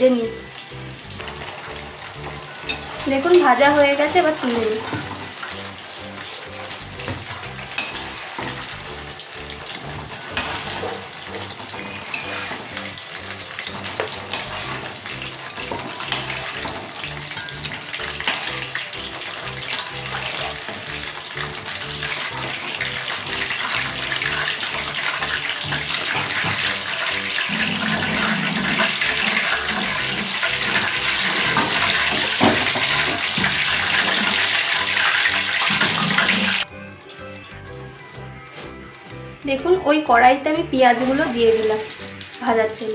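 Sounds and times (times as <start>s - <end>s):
hot oil sizzling: 0.0s - 42.9s
soft background music: 0.0s - 42.9s.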